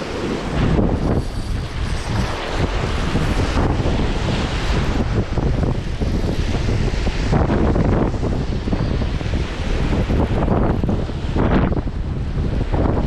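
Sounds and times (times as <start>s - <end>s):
surf washing: 0.0s - 13.0s
wind buffeting microphone: 0.0s - 13.0s.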